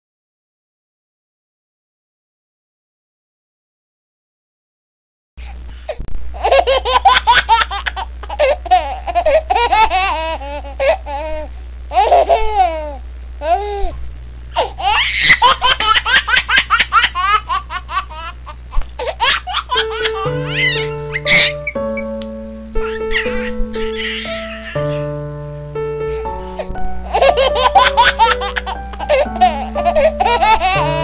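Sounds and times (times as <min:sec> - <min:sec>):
steady low hum: 0:05.4 - 0:31.0.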